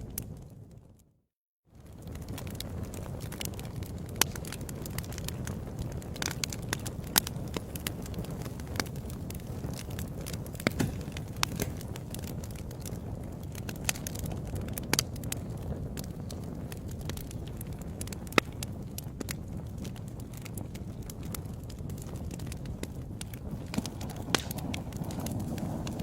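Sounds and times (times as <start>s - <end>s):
fire flames roaring: 0.0s - 1.0s, 1.7s - 26.0s
fire popping and snapping: 0.0s - 1.1s, 1.7s - 26.0s.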